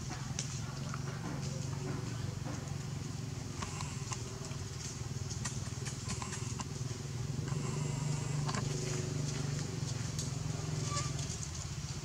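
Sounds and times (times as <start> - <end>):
light clicks and crackles: 0.0 - 12.0
low motor hum: 0.0 - 12.0.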